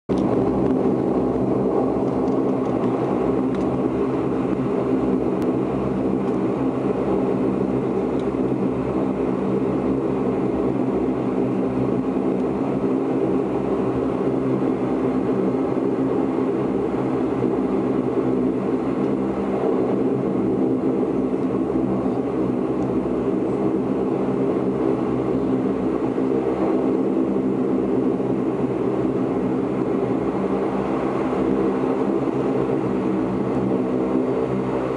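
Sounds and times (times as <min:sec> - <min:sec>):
turboprop engines humming: 0:00.1 - 0:34.9.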